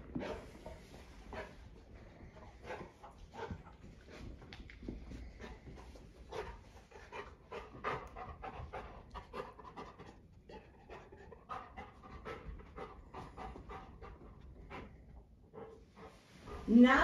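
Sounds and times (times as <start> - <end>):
dog panting quickly: 0.1 - 17.0.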